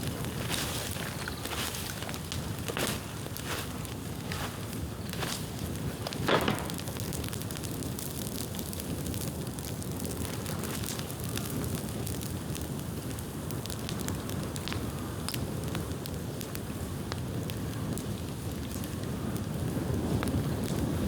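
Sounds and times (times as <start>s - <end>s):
bamboo bonfire crackling: 0.0s - 21.0s.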